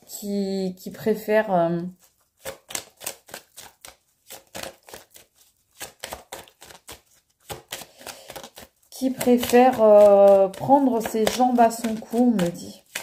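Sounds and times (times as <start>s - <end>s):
cards being shuffled: 2.0s - 13.0s.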